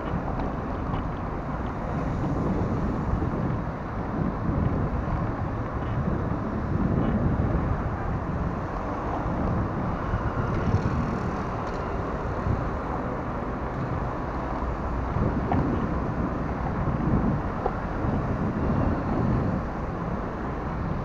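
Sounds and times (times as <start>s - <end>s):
city traffic: 0.0s - 21.0s
wind noise on microphone: 0.0s - 21.0s.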